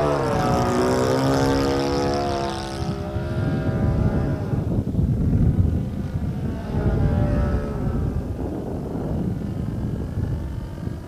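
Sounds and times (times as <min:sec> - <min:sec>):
model plane motor buzzing: 0:00.0 - 0:11.0
wind buffeting microphone: 0:00.0 - 0:11.0.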